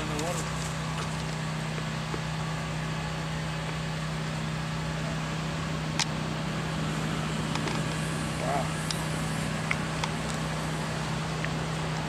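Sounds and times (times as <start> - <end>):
constant hiss: 0.0 - 12.0
low mechanical hum: 0.0 - 12.0.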